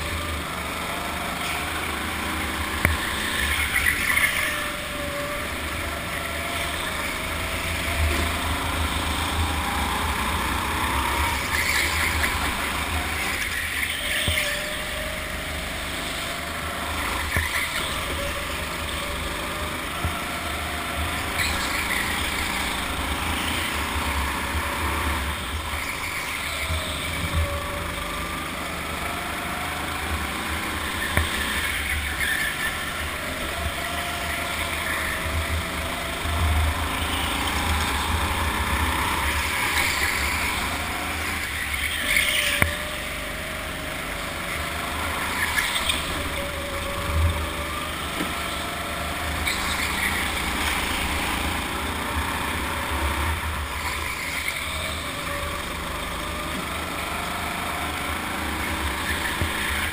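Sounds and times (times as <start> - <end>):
go-kart motor revving: 0.0 - 59.9
low rumble of kart: 0.0 - 59.9.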